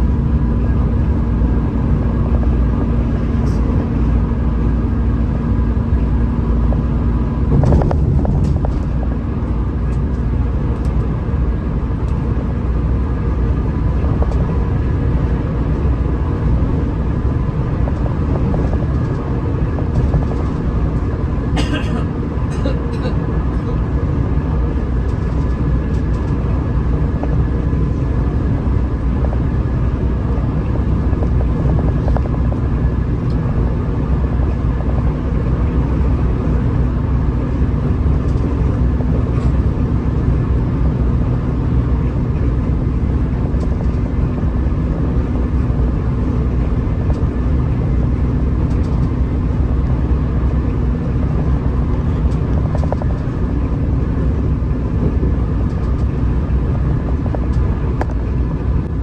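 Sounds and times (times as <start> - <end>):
bus engine drone: 0.0 - 59.0
road rumble: 0.0 - 59.0.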